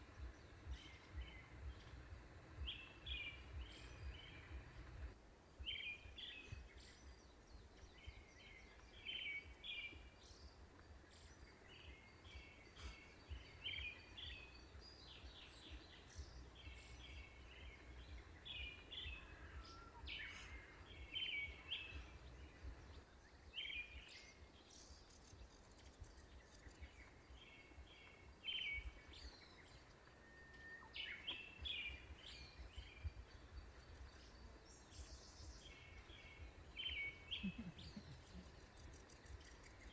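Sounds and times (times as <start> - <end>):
birds chirping faintly: 0.0 - 39.9
low outdoor background noise: 0.0 - 39.9.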